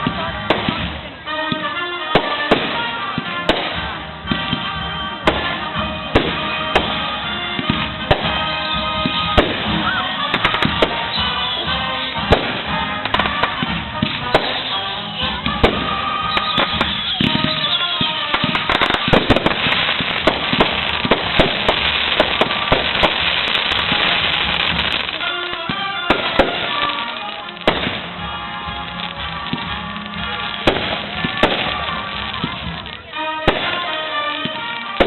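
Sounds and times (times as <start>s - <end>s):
fireworks bursting: 0.0s - 35.0s
fireworks crackling: 0.0s - 35.0s
music playing: 0.0s - 35.0s.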